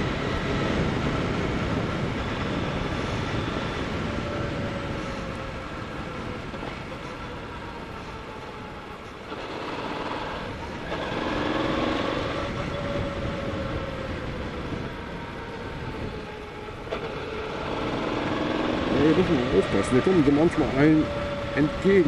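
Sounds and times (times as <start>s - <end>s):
motorcycle engine running: 0.0s - 15.4s, 16.1s - 21.8s
wind rushing over microphone: 0.0s - 22.0s.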